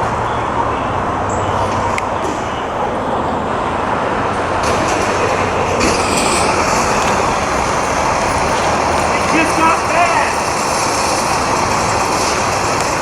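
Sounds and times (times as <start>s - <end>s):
fire truck driving by: 0.0s - 13.0s.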